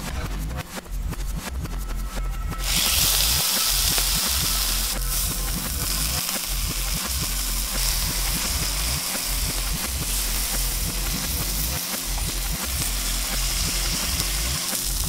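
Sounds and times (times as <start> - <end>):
reversed electronic music: 0.0 - 15.0.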